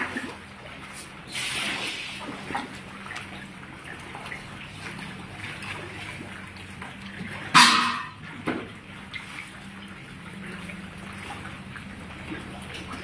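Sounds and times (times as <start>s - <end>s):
fish splashing at surface: 0.0s - 13.0s
water lapping: 0.0s - 13.0s.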